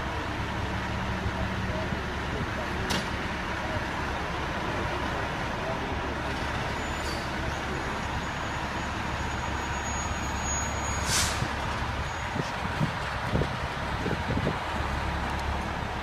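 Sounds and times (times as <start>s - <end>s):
fire truck engine running: 0.0s - 16.0s.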